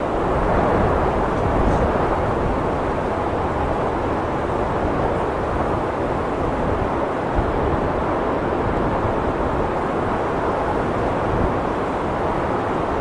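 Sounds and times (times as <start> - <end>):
blizzard wind blowing: 0.0 - 13.0.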